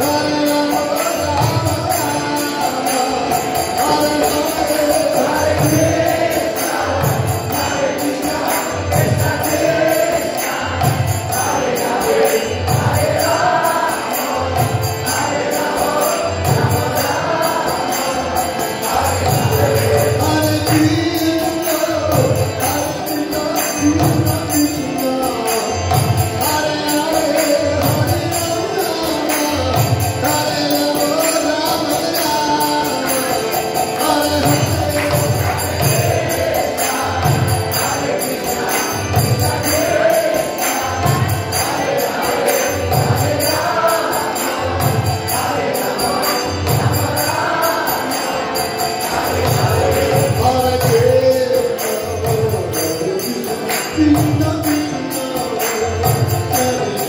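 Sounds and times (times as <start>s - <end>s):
jingling hand cymbals: 0.0s - 57.0s.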